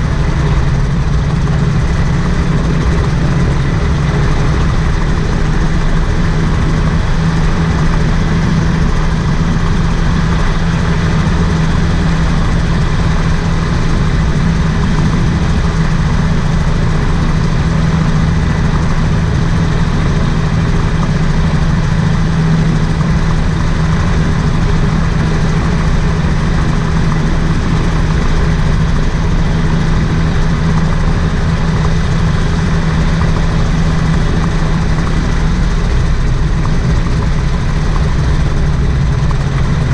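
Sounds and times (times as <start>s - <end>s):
aircraft engine running: 0.0s - 39.9s
constant rushing noise: 0.0s - 39.9s.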